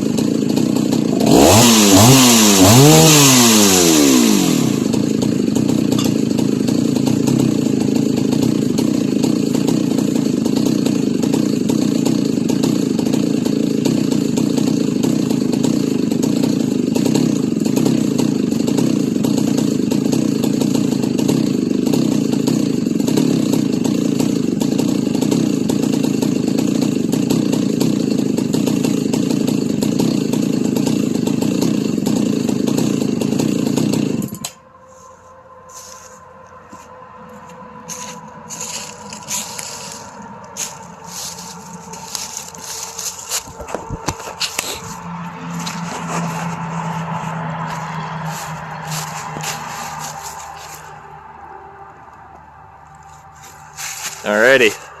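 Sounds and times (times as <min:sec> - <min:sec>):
chainsaw idling: 0:00.0 - 0:55.0.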